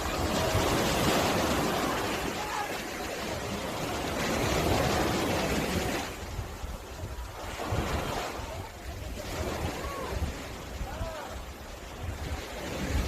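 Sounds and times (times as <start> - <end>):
ocean waves washing onto beach: 0.0 - 13.0.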